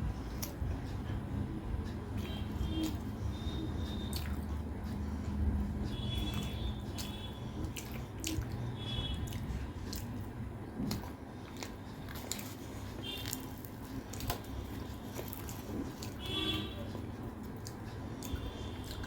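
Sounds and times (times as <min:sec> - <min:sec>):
chewing and biting food: 0:00.0 - 0:19.0.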